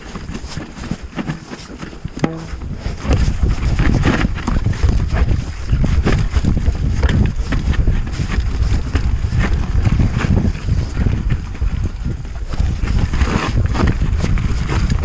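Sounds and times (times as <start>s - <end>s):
bike clattering over bumps: 0.0s - 15.0s
wind buffeting microphone: 0.0s - 15.0s.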